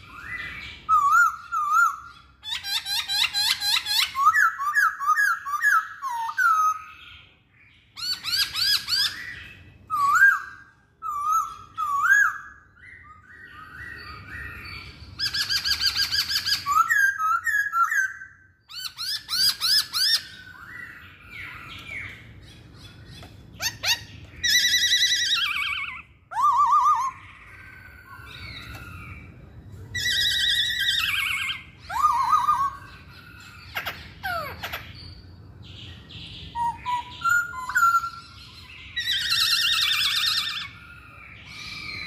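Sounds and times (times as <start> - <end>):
bird singing whistled notes: 0.0 - 42.0.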